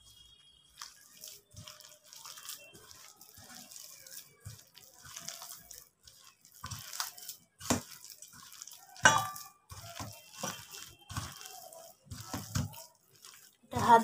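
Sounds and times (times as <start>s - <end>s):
wet batter squelching: 0.0s - 14.0s.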